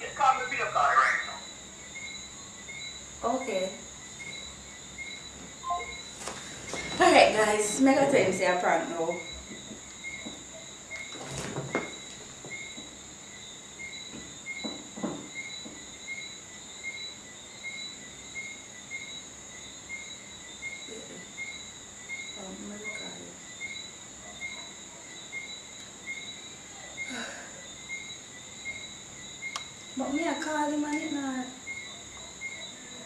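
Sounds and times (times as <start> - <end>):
insect short chirps: 0.0 - 7.4, 11.8 - 33.0
insect high trill: 0.0 - 11.2, 11.8 - 33.0.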